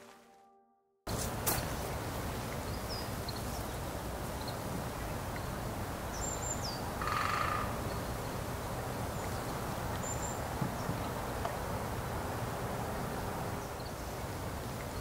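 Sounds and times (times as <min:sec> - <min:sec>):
steady rain: 0:01.1 - 0:15.0.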